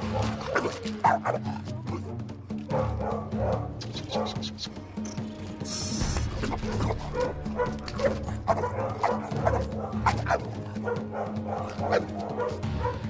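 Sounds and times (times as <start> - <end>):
dog barking: 0.0 - 4.6, 6.4 - 13.0
background music with steady beat: 0.0 - 13.0.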